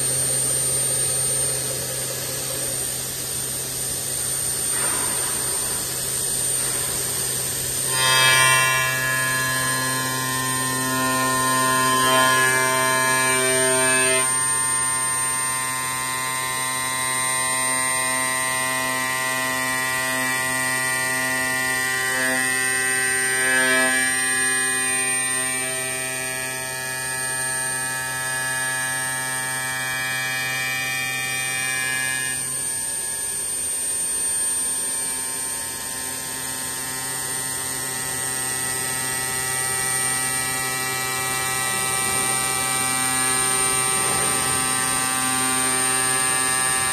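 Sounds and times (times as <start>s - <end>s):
glass milling machine hum and whine: 0.0s - 46.9s.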